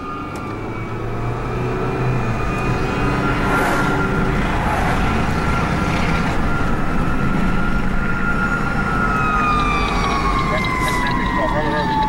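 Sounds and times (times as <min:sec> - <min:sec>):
engine and road rumble: 0:00.0 - 0:12.0
siren wailing: 0:00.0 - 0:12.0.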